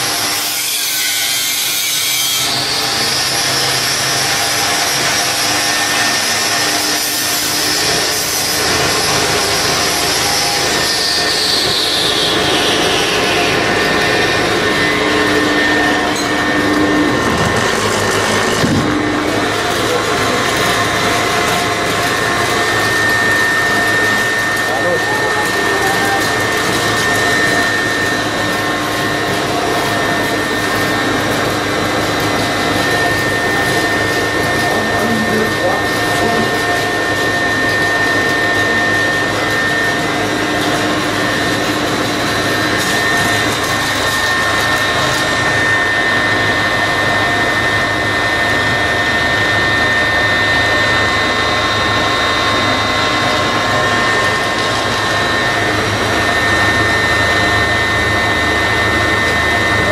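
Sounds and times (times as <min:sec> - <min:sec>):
electric motor whirring: 0:02.4 - 0:59.9.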